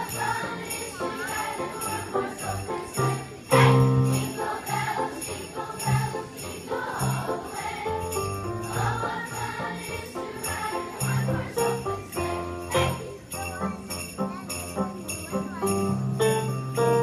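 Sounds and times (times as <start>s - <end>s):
christmas song accompaniment: 0.0s - 17.0s
sleigh bells shaken: 0.0s - 17.0s.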